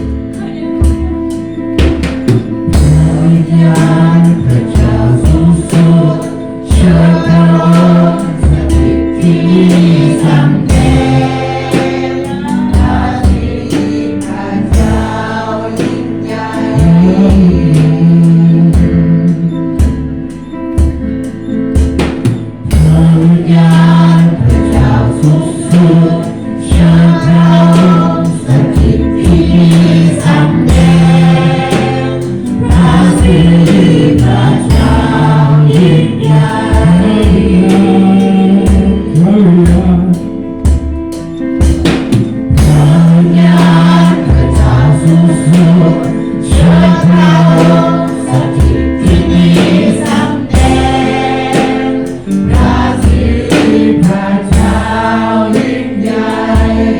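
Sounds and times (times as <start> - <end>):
group singing worship song: 0.0 - 56.9
instrumental accompaniment: 0.0 - 56.9.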